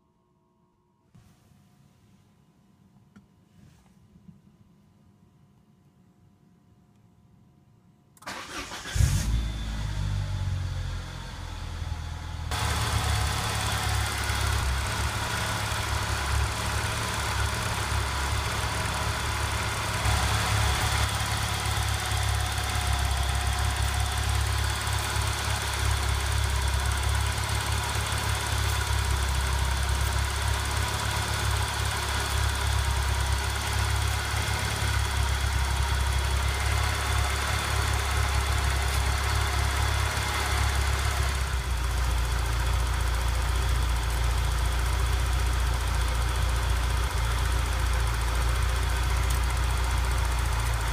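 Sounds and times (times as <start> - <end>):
car engine starting and idling: 8.2 - 50.9.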